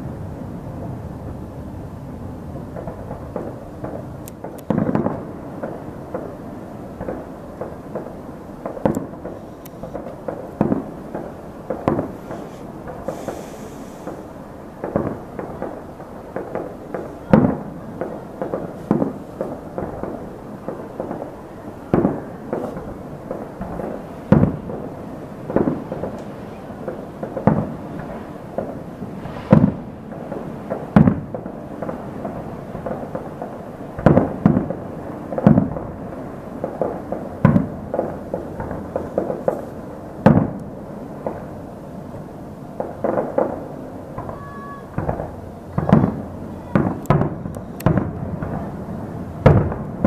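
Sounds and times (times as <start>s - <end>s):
fireworks bursting with echoing booms: 0.0s - 50.0s.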